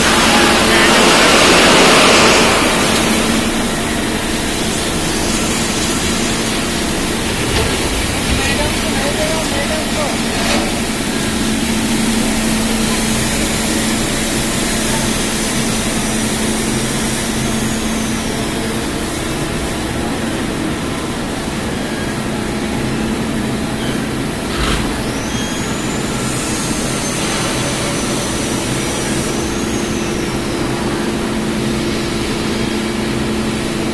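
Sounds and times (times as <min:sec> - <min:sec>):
high machine whine: 0:00.0 - 0:33.9
machine drone with low hum: 0:00.0 - 0:33.9.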